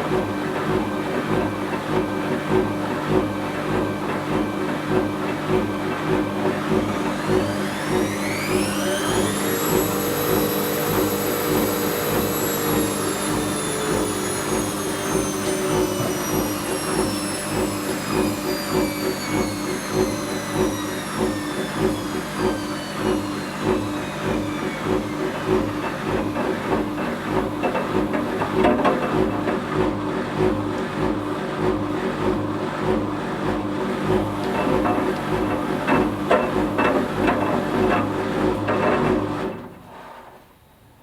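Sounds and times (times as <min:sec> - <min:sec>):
washing machine motor whine: 0:00.0 - 0:40.0.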